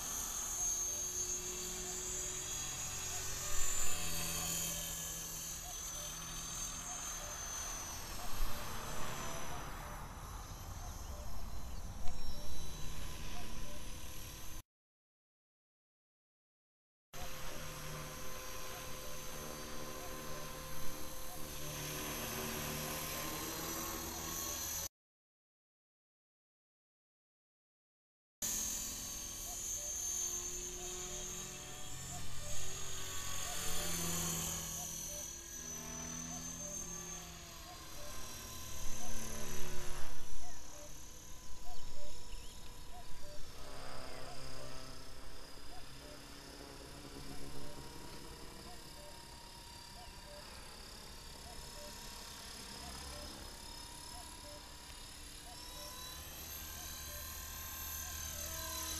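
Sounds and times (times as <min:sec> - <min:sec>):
high motor whine: 0:00.0 - 0:14.6, 0:17.2 - 0:24.9, 0:28.4 - 0:58.9
rc helicopter rotor whirring: 0:00.0 - 0:14.6, 0:17.2 - 0:24.9, 0:28.4 - 0:58.9.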